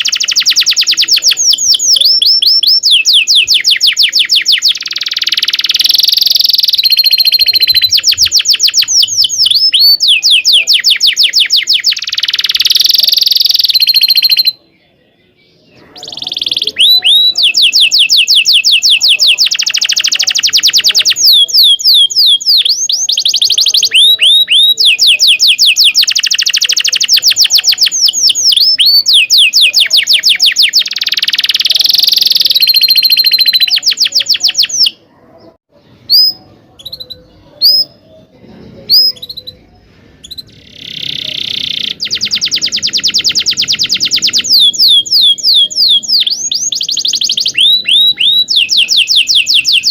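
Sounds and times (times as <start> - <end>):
canary singing trills and chirps: 0.0 - 49.9.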